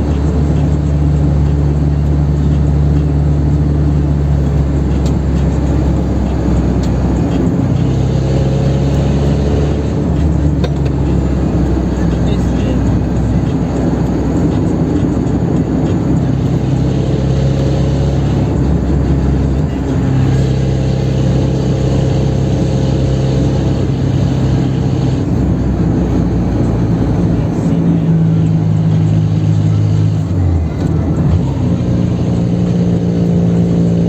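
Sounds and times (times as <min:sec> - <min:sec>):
car engine running under load: 0:00.0 - 0:34.0
road noise: 0:00.0 - 0:34.0.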